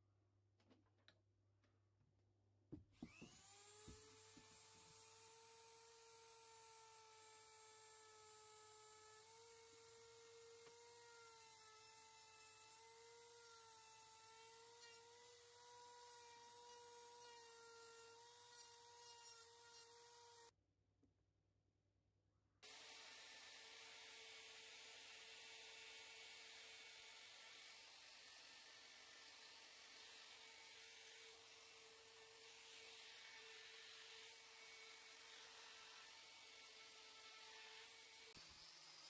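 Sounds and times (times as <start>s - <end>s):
rotary tool whining on wood: 3.0s - 20.5s, 22.6s - 39.0s.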